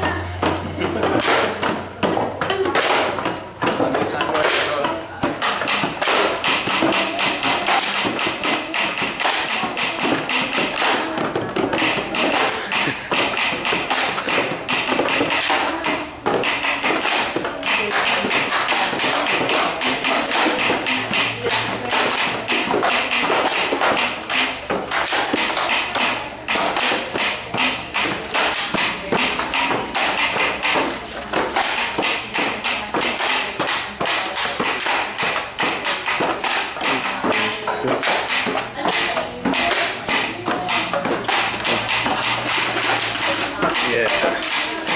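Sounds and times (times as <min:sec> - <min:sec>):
cardboard box drums played by hand: 0:00.0 - 0:44.9.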